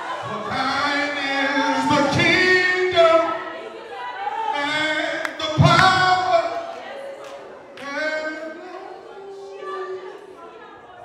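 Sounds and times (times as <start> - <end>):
group singing gospel: 0.0 - 11.0.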